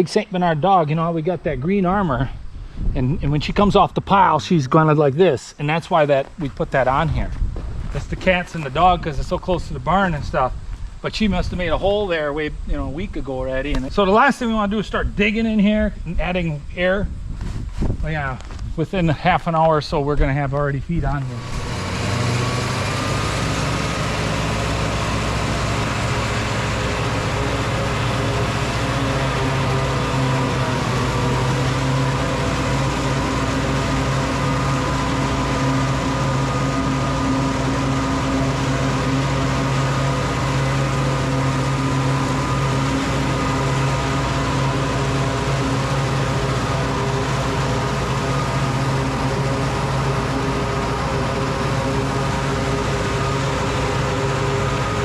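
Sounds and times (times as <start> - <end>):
tractor engine and forage chopper drone: 4.8 - 14.9, 20.8 - 55.0.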